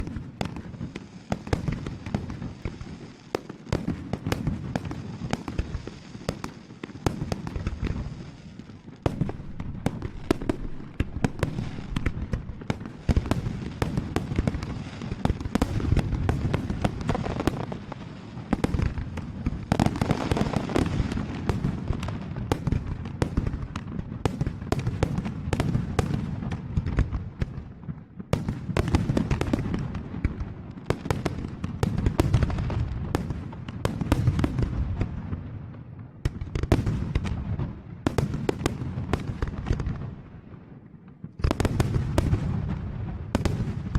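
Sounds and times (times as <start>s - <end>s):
fireworks bursting: 0.0s - 43.9s
low rumble of explosions: 3.8s - 43.9s.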